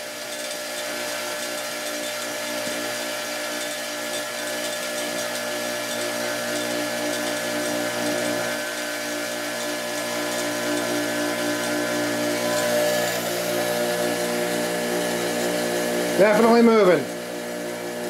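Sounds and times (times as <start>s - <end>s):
bench grinder motor humming: 0.0s - 18.0s.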